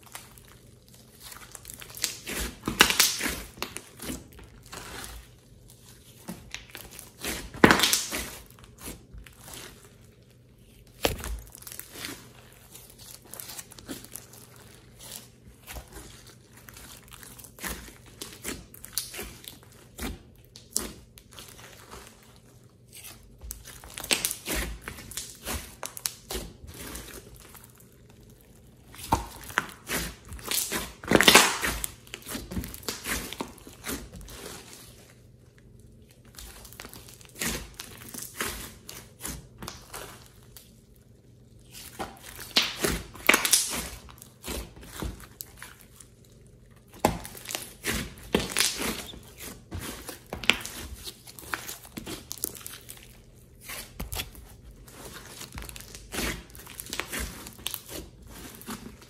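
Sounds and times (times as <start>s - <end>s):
sticky slime squishes and crackles: 0.0s - 59.0s.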